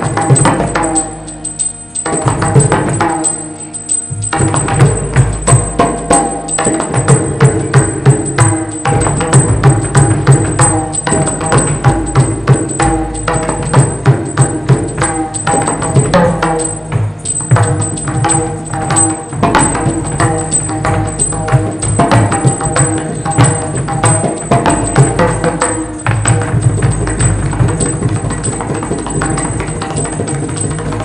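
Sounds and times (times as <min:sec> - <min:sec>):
metal hand cymbals: 0:00.0 - 0:31.0.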